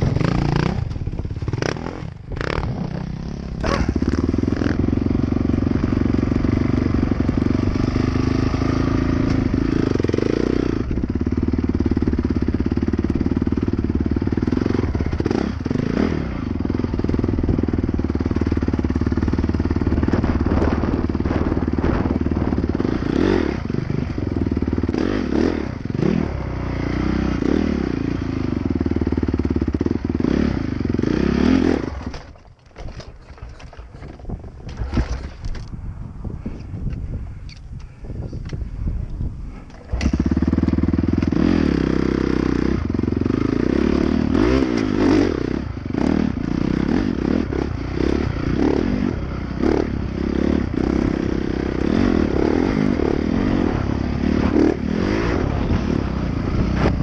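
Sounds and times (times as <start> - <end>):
dirt bike engine revving: 0.0 - 32.3, 39.6 - 57.0.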